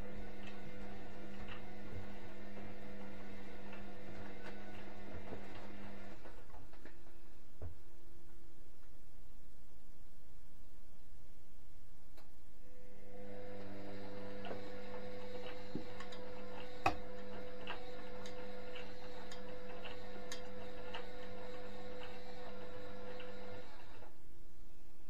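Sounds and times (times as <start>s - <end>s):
washing machine motor hum: 0.0s - 8.3s, 12.6s - 25.0s.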